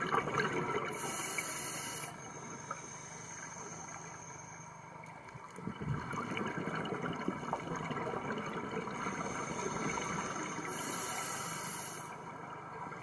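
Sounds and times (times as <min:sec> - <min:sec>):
underwater bubbling of exhaled breath: 0:00.0 - 0:04.6, 0:05.4 - 0:13.0.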